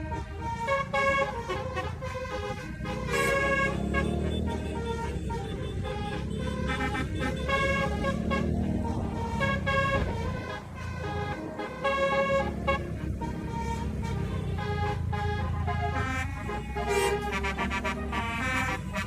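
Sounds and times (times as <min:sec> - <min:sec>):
musical bus horn playing a tune: 0:00.0 - 0:19.0.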